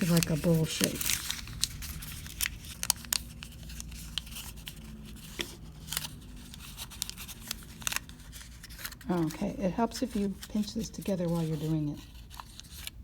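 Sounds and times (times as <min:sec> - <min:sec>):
paper crackles: 0:00.0 - 0:13.0
paper crinkling and rustling: 0:00.0 - 0:13.0.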